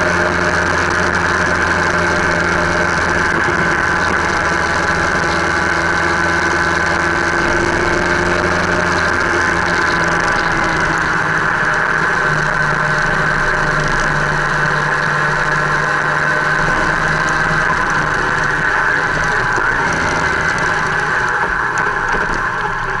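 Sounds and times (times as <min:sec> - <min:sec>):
motorcycle engine cruising: 0:00.0 - 0:23.0
road and wind noise: 0:00.0 - 0:23.0.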